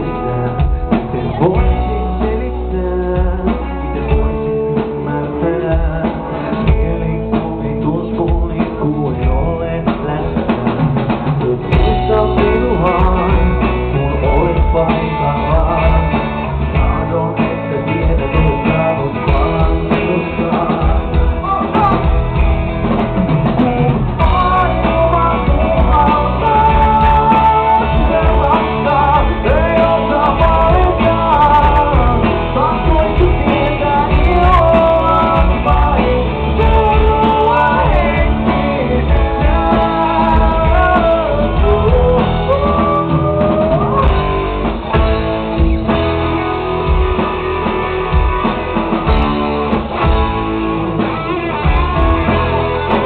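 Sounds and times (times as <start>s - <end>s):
man singing: 0.0s - 22.6s, 23.3s - 47.2s
rock band playing live: 0.0s - 53.0s.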